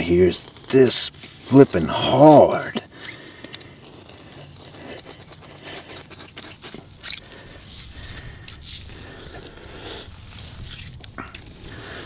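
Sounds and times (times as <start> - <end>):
metal tool scraping dry soil: 0.0 - 12.0.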